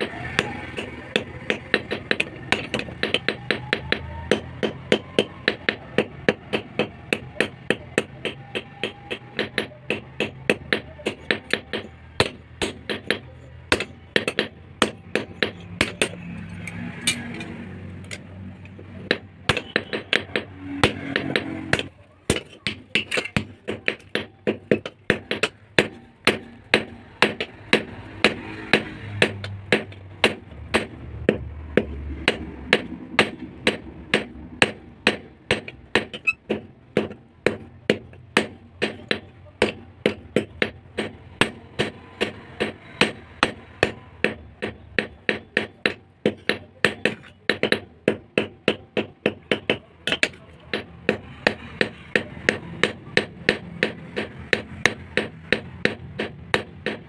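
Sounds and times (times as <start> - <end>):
hammer striking hot steel: 0.0 - 57.0.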